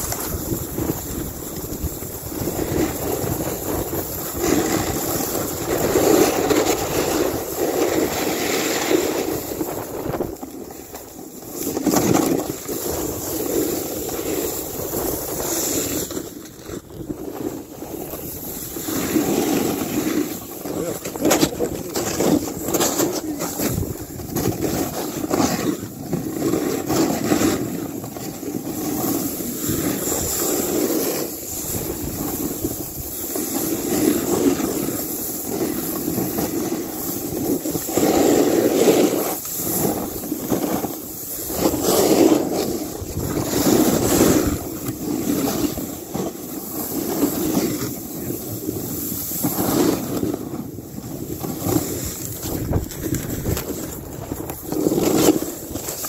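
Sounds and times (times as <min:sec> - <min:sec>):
wind buffeting microphone: 0:00.0 - 0:11.0, 0:11.9 - 0:25.6, 0:28.6 - 0:38.2, 0:39.8 - 0:46.2, 0:47.0 - 0:56.0
snowboard sliding through snow: 0:00.0 - 0:56.0.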